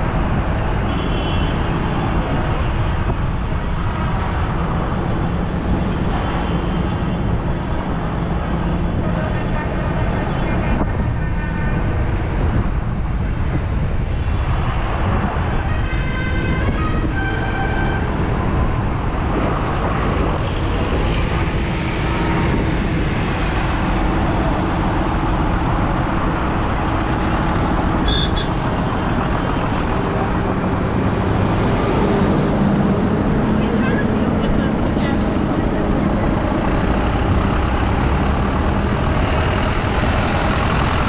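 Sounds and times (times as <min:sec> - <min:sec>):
tractor engines rumbling: 0:00.0 - 0:41.0.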